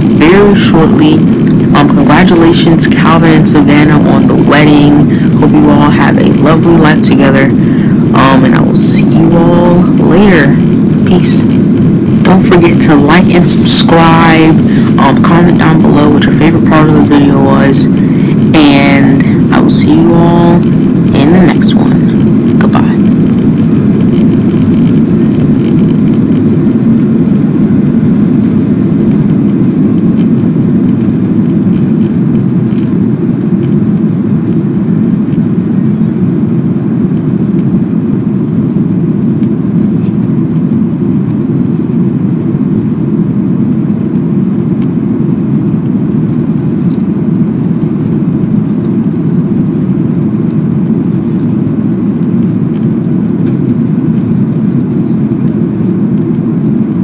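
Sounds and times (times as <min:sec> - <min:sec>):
jet engine cabin roar: 0:00.0 - 0:57.0.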